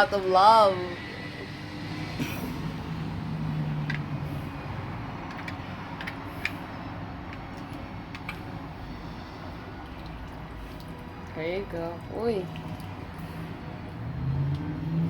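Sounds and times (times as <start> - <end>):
steady background hum: 0.0 - 14.9.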